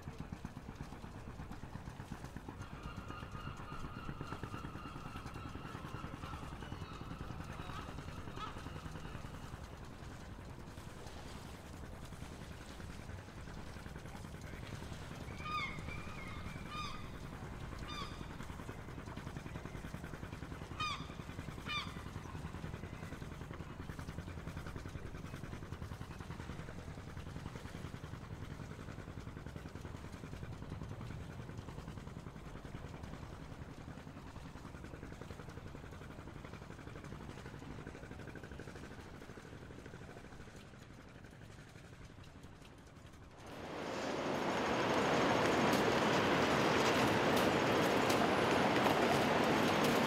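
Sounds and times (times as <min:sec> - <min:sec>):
low street rumble: 0:00.0 - 0:50.0.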